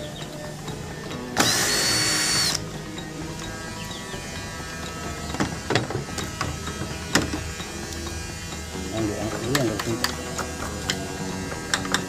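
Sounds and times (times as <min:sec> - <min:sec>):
cordless drill whining: 0:00.0 - 0:12.0.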